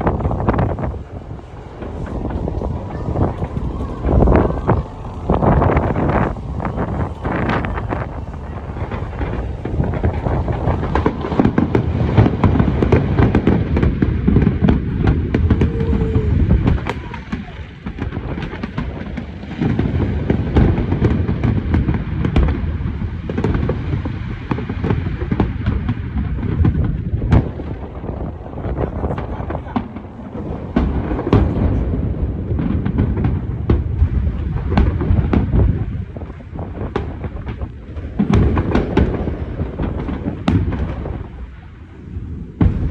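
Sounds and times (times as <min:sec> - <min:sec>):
fireworks booming: 0:00.0 - 0:42.9
fireworks crackling: 0:00.0 - 0:42.9.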